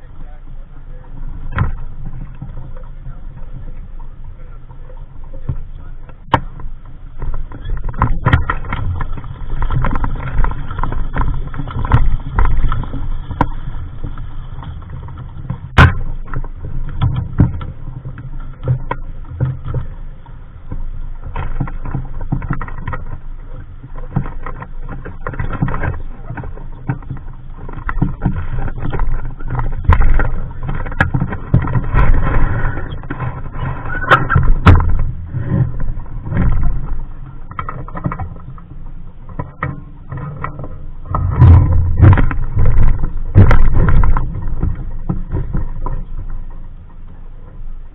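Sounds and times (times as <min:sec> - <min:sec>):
low rumble: 0:00.0 - 0:47.9
sailing dinghy rigging clatter: 0:00.0 - 0:47.9.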